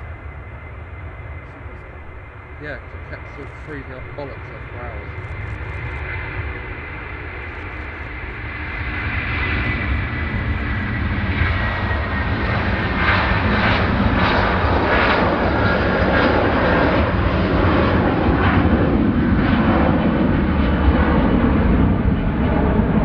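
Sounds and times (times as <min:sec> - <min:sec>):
jet airliner engines running: 0:00.0 - 0:23.0.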